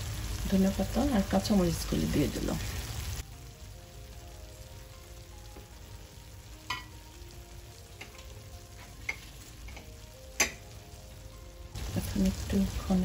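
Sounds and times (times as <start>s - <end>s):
curry simmering in a pan: 0.0s - 13.0s.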